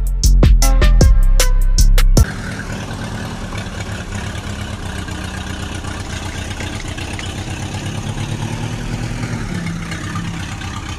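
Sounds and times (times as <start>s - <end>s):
tractor engine idling: 0.0s - 10.9s.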